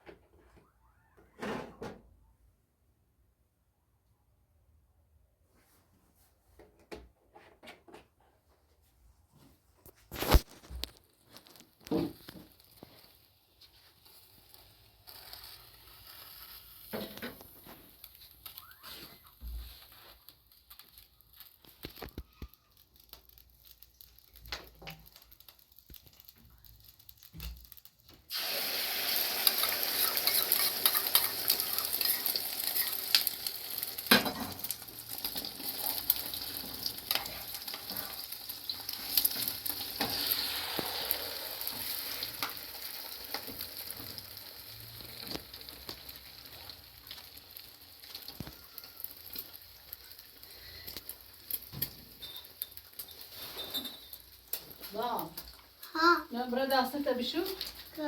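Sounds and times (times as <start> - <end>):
food sizzling in hot oil: 10.1 - 58.0.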